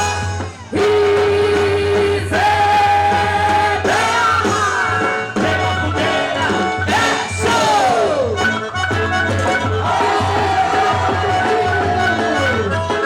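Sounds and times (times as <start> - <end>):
upbeat folk band music: 0.0 - 13.0.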